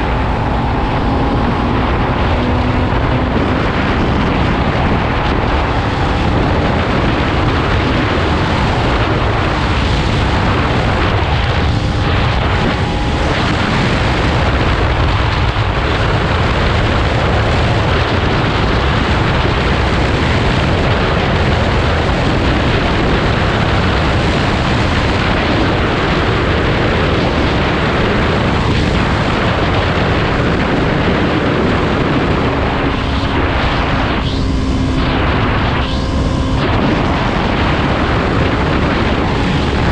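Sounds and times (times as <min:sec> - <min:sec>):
motorcycle engine drone: 0:00.0 - 0:39.9
wind buffeting microphone: 0:00.0 - 0:39.9.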